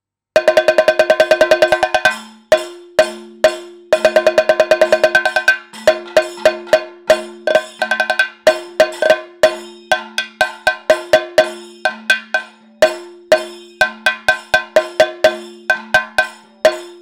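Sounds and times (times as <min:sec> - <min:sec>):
gong and cymbals beating rhythm: 0:00.4 - 0:17.0.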